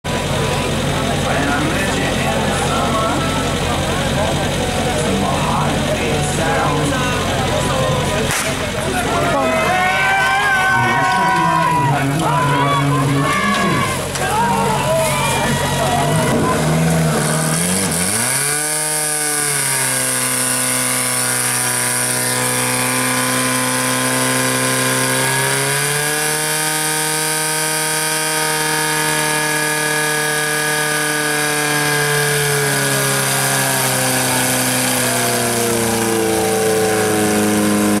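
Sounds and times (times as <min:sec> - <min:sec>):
pump engine running hard: 0:00.1 - 0:38.0.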